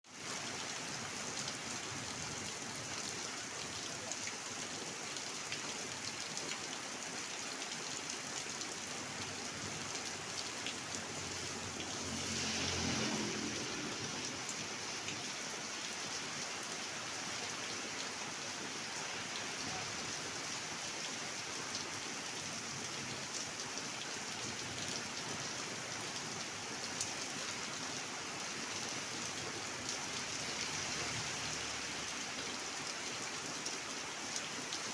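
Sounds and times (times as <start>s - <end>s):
rain pattering: 0.2s - 34.9s.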